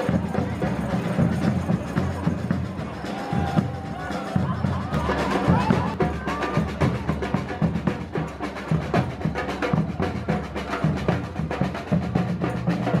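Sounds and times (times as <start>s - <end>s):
marching drums playing: 0.0s - 13.0s.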